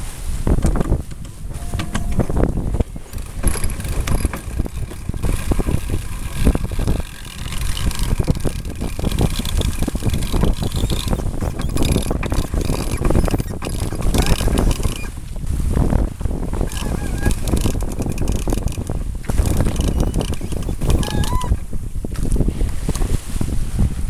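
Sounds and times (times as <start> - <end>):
water rushing along boat hull: 0.0 - 24.0
wind buffeting microphone: 0.0 - 24.0.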